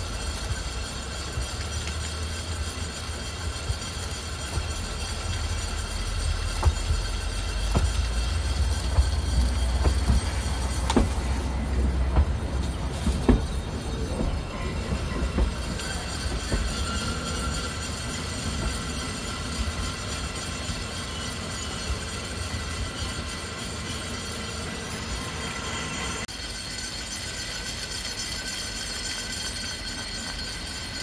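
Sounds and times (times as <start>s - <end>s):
funicular car rumbling: 0.0s - 26.3s
wheels clicking on rails: 0.0s - 31.0s.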